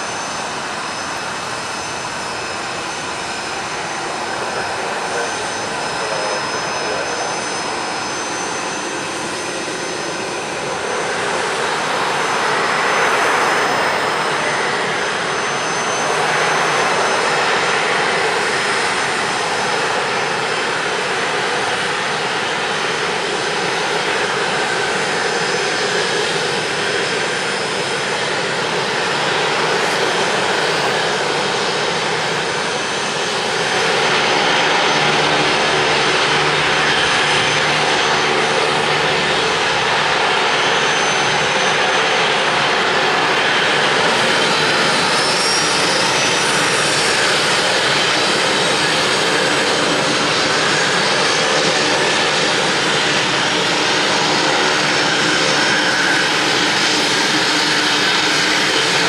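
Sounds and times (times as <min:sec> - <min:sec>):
turboprop engines whining: 0:00.0 - 0:59.0.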